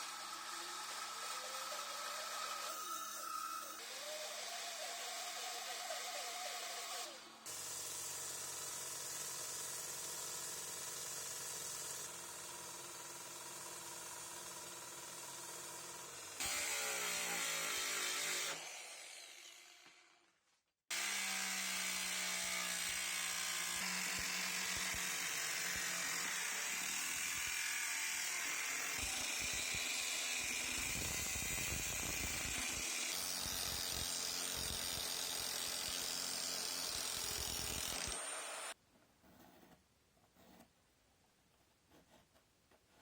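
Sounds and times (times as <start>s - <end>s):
power drill running: 0.0s - 20.1s, 20.9s - 38.8s.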